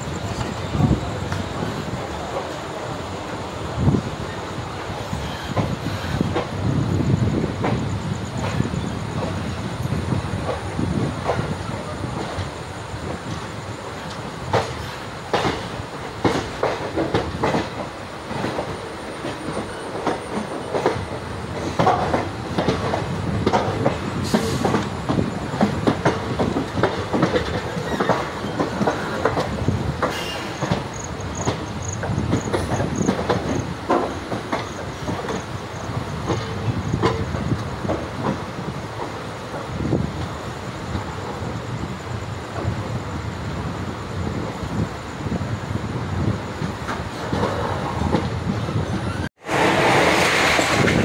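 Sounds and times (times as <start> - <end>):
train wheels clattering over rail joints: 0.0 - 41.8, 46.3 - 51.0
steady train rumble: 0.0 - 51.0.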